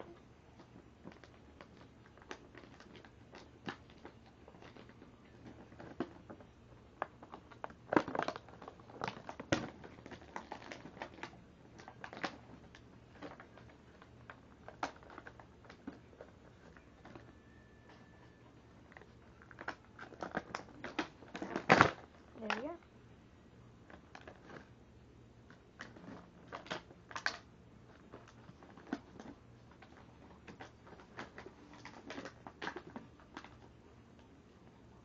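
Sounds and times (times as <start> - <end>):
plastic and cardboard crinkling: 0.0 - 22.8, 23.8 - 24.8, 25.4 - 35.0.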